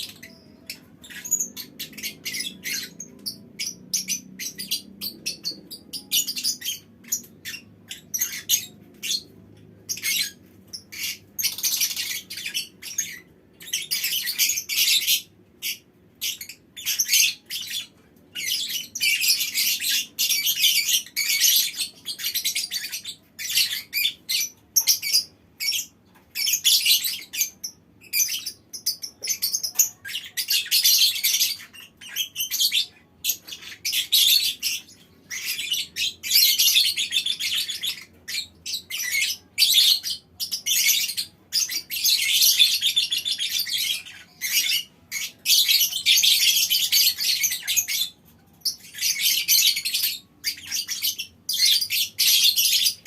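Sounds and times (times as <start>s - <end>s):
lovebirds chattering: 0.0s - 53.0s.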